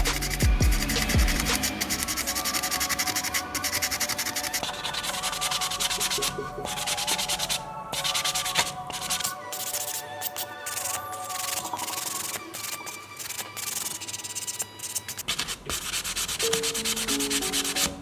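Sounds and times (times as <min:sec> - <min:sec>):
sandpaper rubbing: 0:00.0 - 0:18.0.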